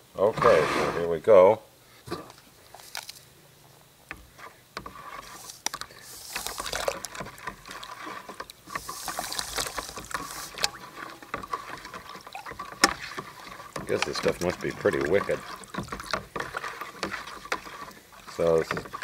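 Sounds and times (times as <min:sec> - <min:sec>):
water swishing and sloshing in bucket: 0:00.3 - 0:01.2, 0:04.1 - 0:19.0.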